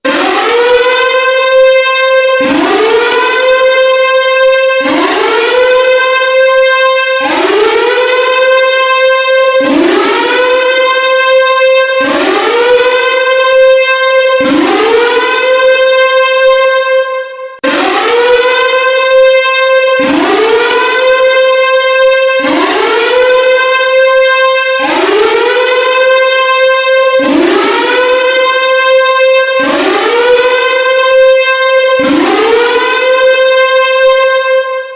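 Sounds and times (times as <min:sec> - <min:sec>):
emergency siren wailing: 0:00.0 - 0:34.9
steady high alarm tone: 0:00.0 - 0:34.9.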